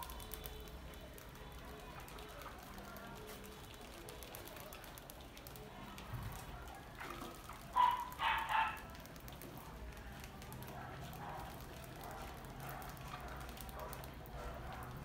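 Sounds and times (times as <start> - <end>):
rodents scrabbling in bedding: 0.0 - 15.0.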